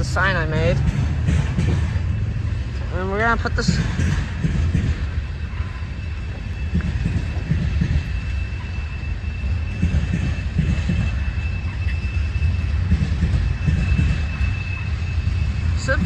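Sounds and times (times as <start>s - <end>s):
train rumbling by: 0.0s - 16.0s.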